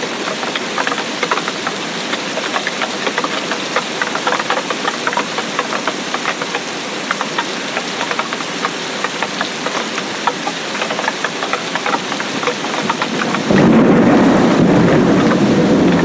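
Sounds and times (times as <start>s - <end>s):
raindrops ticking on a surface: 0.0s - 16.0s
steady rain hiss: 0.0s - 16.0s.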